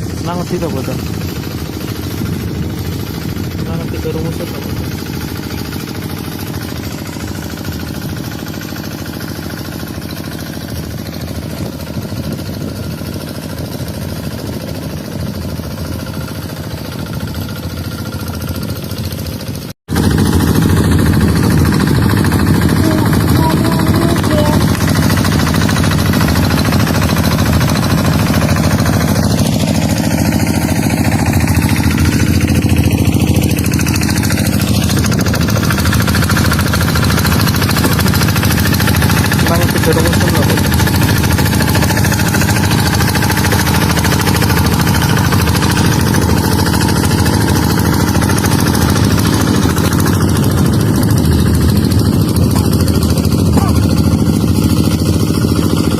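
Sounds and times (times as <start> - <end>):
tractor engine knocking and rattling: 0.0 - 55.9.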